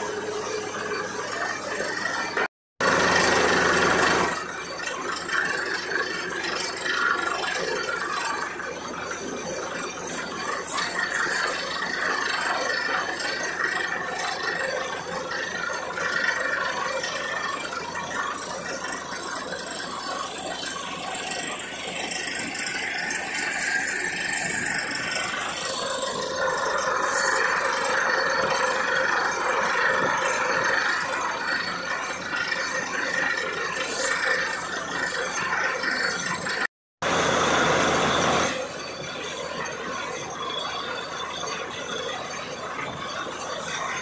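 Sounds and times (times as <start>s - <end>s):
drilling rig rattling: 0.0s - 44.0s
engine noise: 0.0s - 44.0s.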